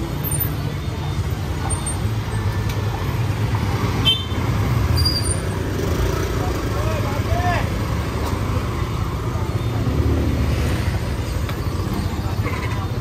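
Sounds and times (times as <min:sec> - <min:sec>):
vehicle engines humming: 0:00.0 - 0:13.0.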